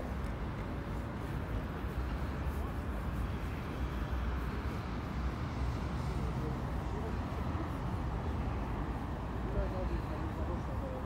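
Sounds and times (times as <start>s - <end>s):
city traffic rumble: 0.0s - 11.0s
faint distant voices: 0.0s - 11.0s.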